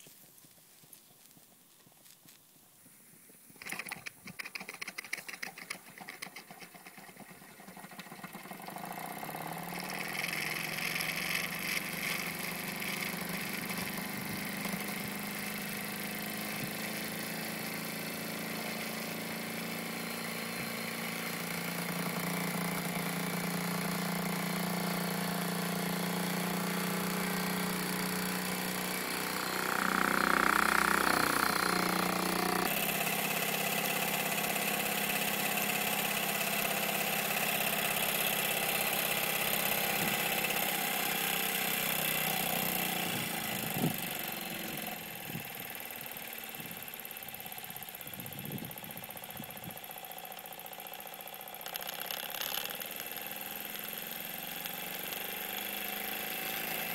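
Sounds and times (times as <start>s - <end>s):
steam engine running: 3.6s - 56.9s.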